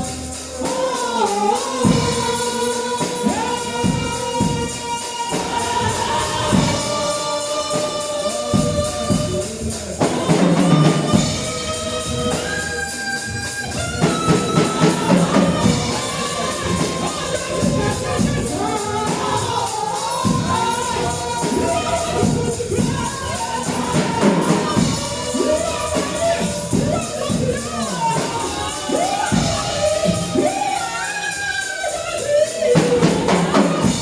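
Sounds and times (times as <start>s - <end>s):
tambourine shaken: 0.0s - 34.0s
voices singing gospel: 0.0s - 34.0s.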